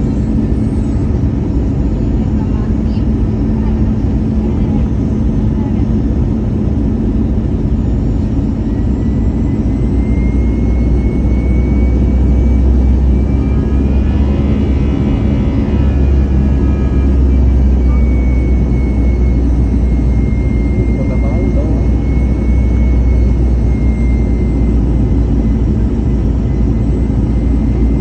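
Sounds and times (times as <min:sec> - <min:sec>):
high whine: 0:00.0 - 0:28.0
jet engines roaring: 0:00.0 - 0:28.0.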